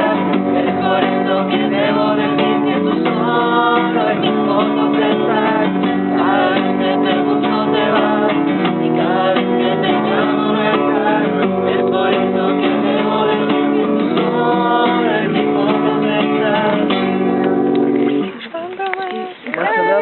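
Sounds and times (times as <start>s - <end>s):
acoustic guitar strumming: 0.0s - 18.5s
voices singing: 0.0s - 20.0s.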